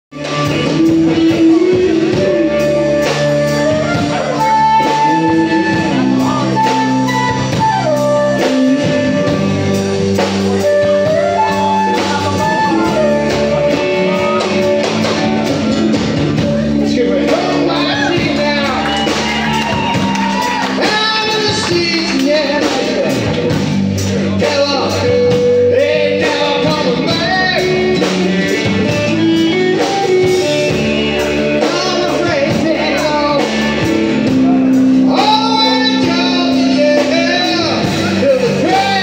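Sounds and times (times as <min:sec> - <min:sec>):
flute melody: 0:00.1 - 0:23.3, 0:24.3 - 0:39.0
bass guitar: 0:00.1 - 0:39.0
drums: 0:00.1 - 0:39.0
electric guitar: 0:00.1 - 0:39.0.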